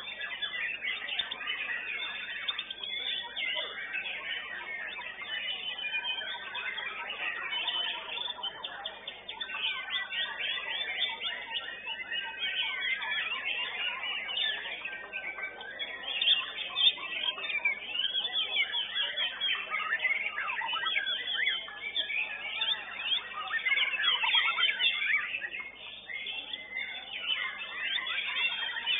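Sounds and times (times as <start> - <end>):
songbird singing whistles and chirps: 0.0 - 28.9.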